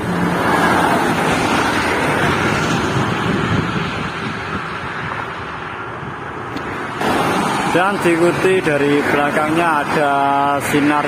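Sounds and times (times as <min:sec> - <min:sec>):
bus passing at speed: 0:00.0 - 0:11.0.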